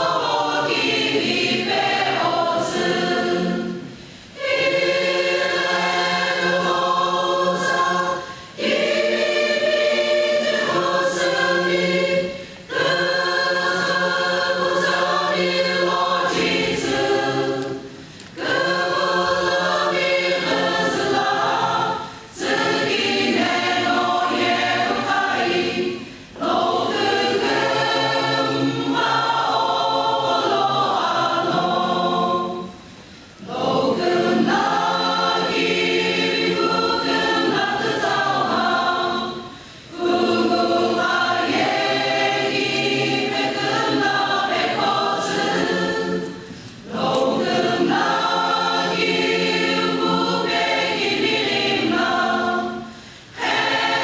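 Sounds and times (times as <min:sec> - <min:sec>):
choir singing gospel: 0:00.0 - 0:54.0.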